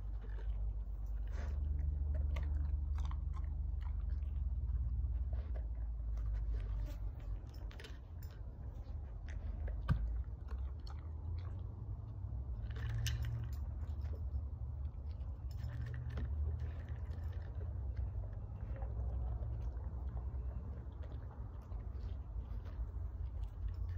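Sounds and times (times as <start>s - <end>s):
dog chewing dry treats: 0.0s - 23.9s
steady low rumble: 0.0s - 23.9s.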